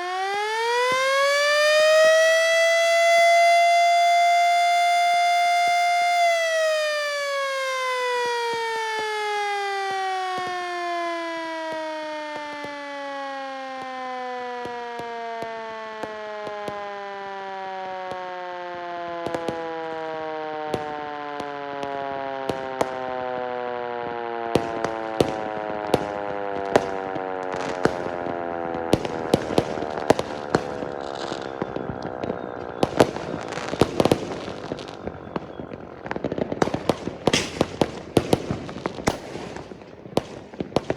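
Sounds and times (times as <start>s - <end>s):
firecrackers popping: 0.0s - 40.9s.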